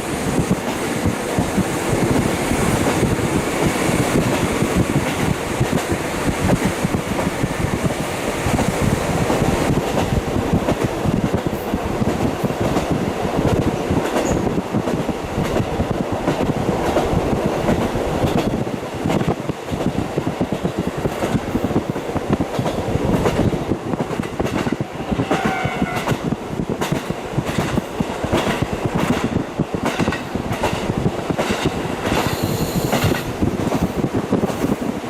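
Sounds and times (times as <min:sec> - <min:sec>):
diesel railcar rumble: 0:00.0 - 0:35.0.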